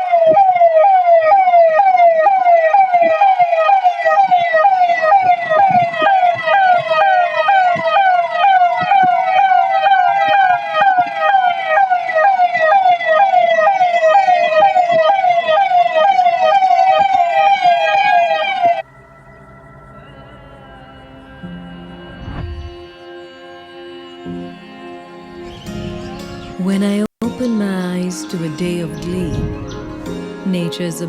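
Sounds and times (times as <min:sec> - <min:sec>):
electronic siren wailing: 0:00.0 - 0:26.8, 0:28.2 - 0:30.8.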